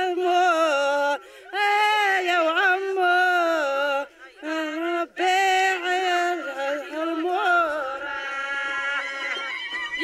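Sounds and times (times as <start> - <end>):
women singing together: 0.0 - 10.0.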